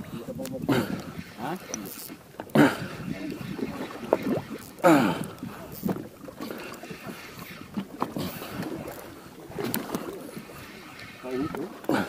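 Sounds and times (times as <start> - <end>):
water moving against hull: 0.0 - 12.0
wind: 0.0 - 12.0.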